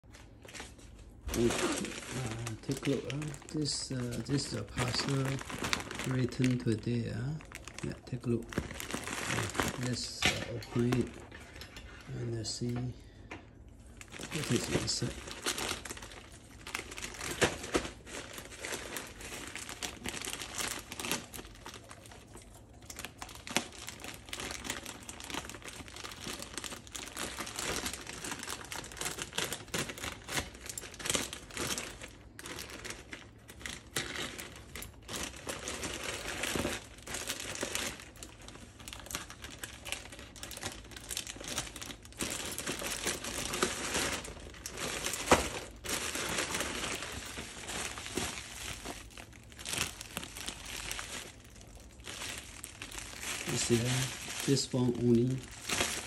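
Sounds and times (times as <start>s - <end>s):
plastic-wrapped box crackling: 0.0s - 12.9s, 13.8s - 56.0s
plastic bag crinkling: 0.0s - 56.0s.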